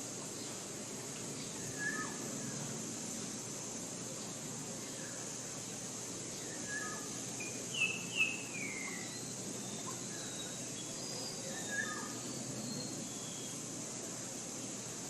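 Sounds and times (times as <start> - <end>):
steady high-pitched hiss: 0.0 - 15.0
forest birds calling: 0.1 - 2.8, 4.0 - 13.9.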